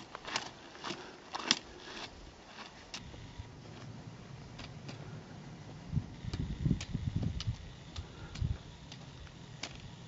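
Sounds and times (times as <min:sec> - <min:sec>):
footstep clicks on trail: 0:00.0 - 0:10.0.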